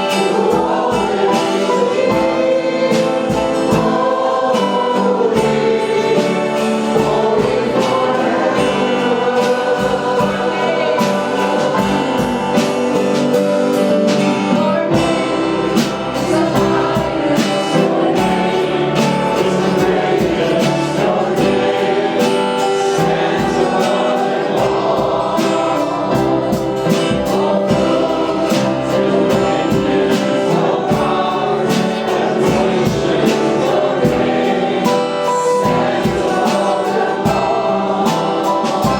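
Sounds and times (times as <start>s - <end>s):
choir singing: 0.0s - 38.9s
instrumental accompaniment with beat: 0.0s - 38.9s.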